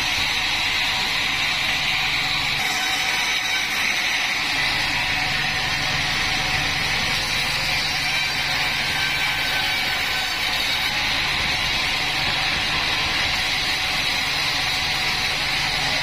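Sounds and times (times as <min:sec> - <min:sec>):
band sawmill droning: 0:00.0 - 0:16.0.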